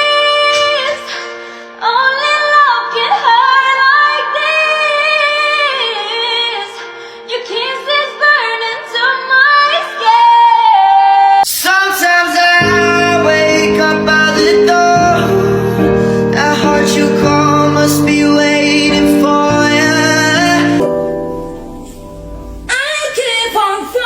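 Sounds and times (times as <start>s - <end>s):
high voice singing with music: 0.0s - 24.0s.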